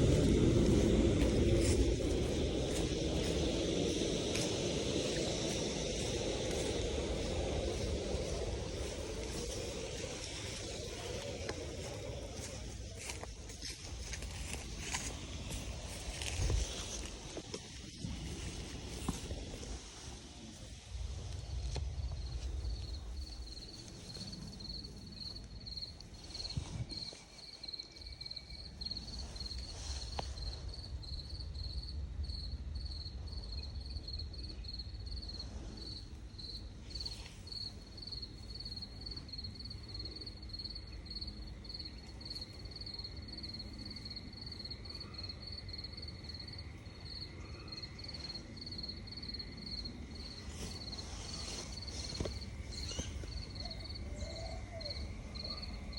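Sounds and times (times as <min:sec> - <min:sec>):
insect chirping: 0:00.0 - 0:55.9
low rumble of wind: 0:00.0 - 0:55.9.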